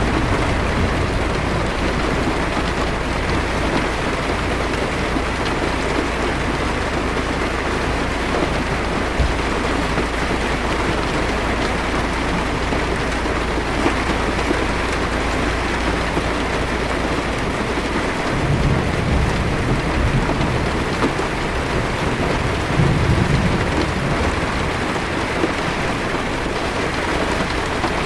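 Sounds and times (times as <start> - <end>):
low rumble of thunder: 0.0 - 16.6, 17.3 - 28.0
heavy rain on windshield: 0.0 - 28.0.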